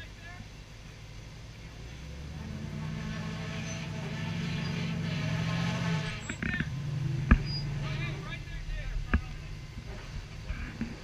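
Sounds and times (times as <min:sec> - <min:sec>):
buggy engine working under load: 0:00.0 - 0:11.0.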